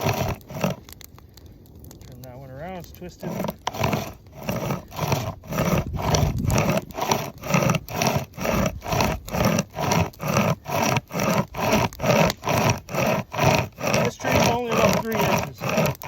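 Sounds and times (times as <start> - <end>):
hand chainsaw rasping through wood: 0.0 - 1.0, 2.6 - 16.0.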